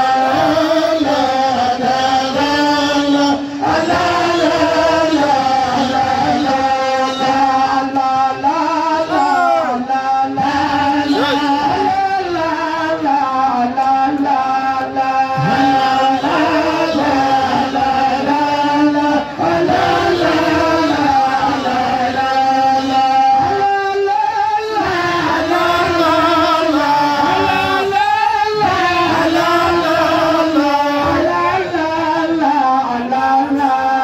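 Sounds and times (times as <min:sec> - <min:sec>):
woman chanting into a microphone: 0:00.0 - 0:34.0.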